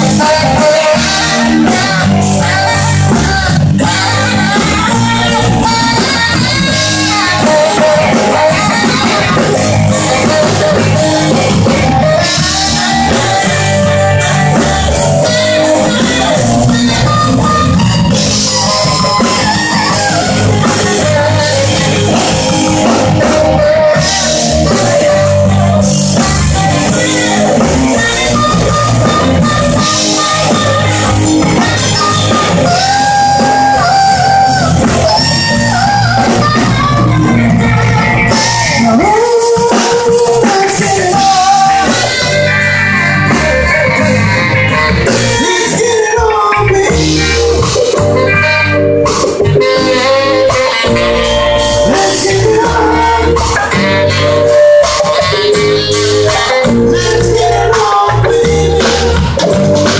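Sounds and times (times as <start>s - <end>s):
drum kit: 0.0s - 59.9s
electric guitar: 0.0s - 59.9s
live soul band playing: 0.0s - 59.9s
melodic lead line: 0.0s - 59.9s.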